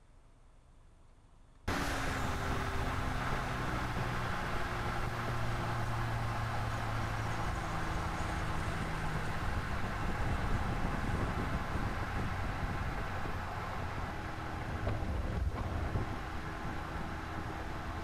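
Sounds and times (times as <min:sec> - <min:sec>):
tyre and wind noise: 0:01.7 - 0:18.0.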